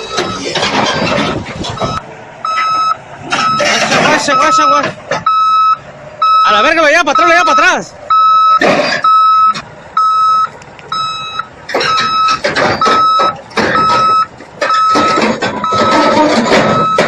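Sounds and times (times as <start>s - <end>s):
reversing alarm beeping: 0.0s - 17.0s.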